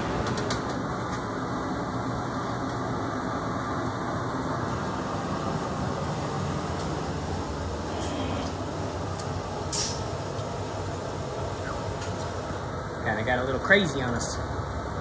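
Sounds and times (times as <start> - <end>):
gas burner rushing: 0.0 - 15.0.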